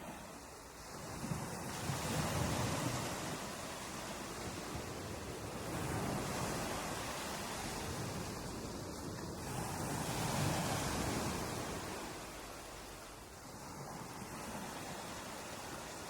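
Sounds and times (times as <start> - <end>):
ocean surf washing ashore: 0.0 - 16.0.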